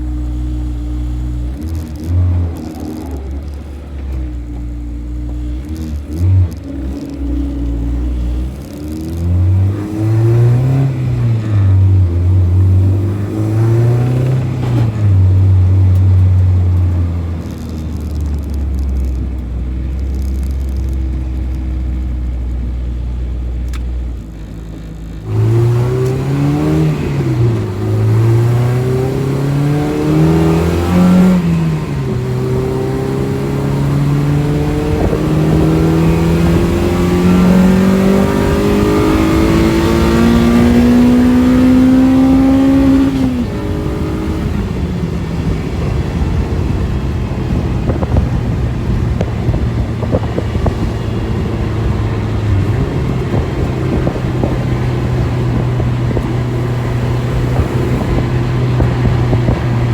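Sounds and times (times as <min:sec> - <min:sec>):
car engine revving through gears: 0:00.0 - 0:59.9.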